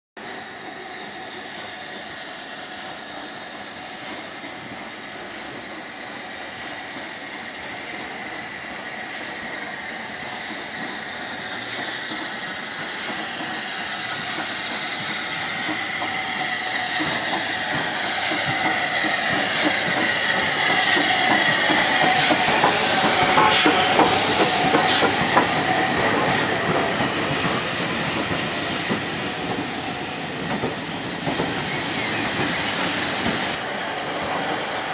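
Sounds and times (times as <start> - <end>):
steam train passing: 0.2 - 34.9.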